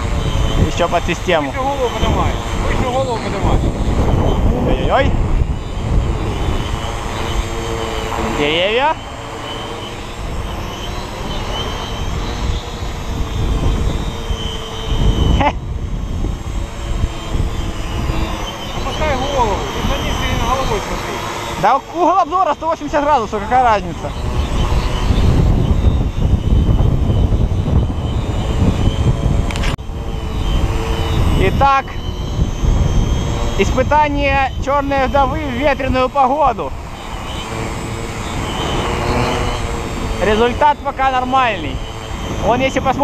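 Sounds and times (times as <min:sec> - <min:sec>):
drone motors whining: 0:00.0 - 0:43.0
quadcopter propellers buzzing: 0:00.0 - 0:43.0
wind buffeting microphone: 0:00.0 - 0:43.0.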